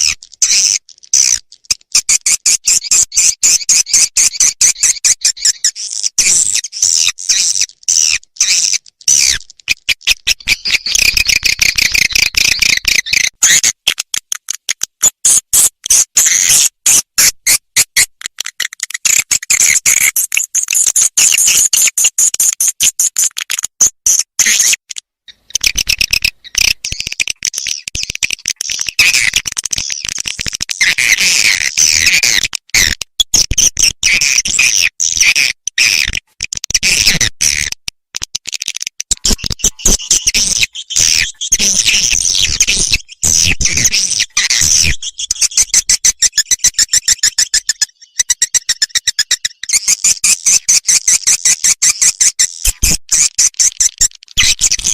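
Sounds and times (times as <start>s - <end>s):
bird chirping twitters and clicks: 0.0s - 54.9s.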